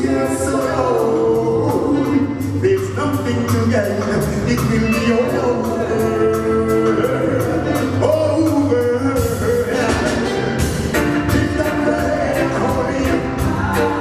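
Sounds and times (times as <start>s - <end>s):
reggae band playing: 0.0s - 14.0s.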